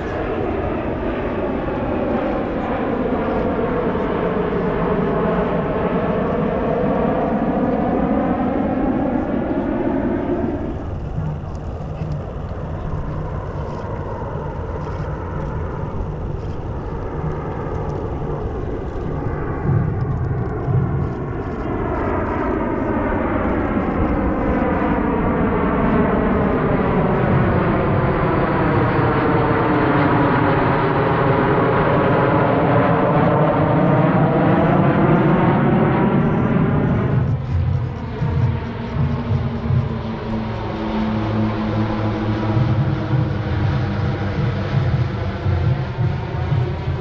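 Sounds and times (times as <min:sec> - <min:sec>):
jet roar with phasing sweep: 0:00.0 - 0:47.0.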